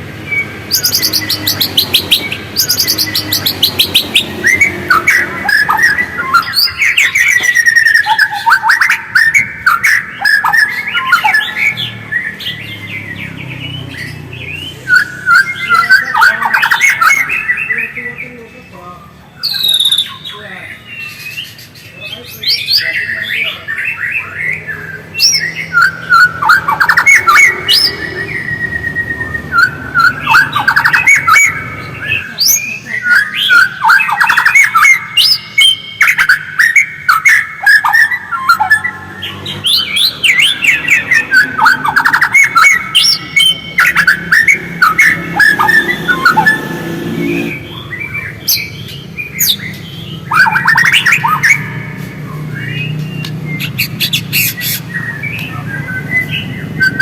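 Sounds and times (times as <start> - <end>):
bird singing chattering song: 0.0 - 57.0.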